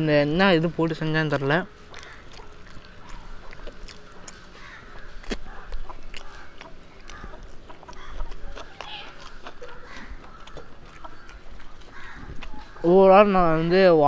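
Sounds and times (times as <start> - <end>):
close chewing: 0.0 - 14.0
chickens clucking: 0.4 - 13.9.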